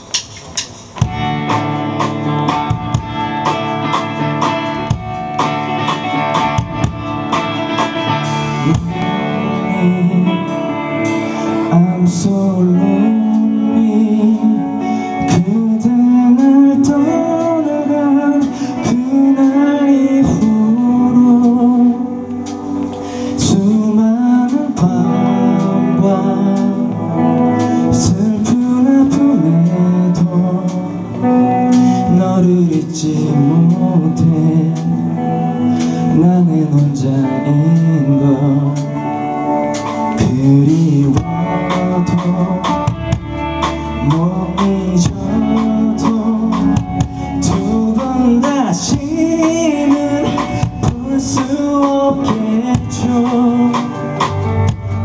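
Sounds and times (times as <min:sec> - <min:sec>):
guitar lead melody: 0:00.0 - 0:55.0
rock band playing: 0:00.0 - 0:55.0.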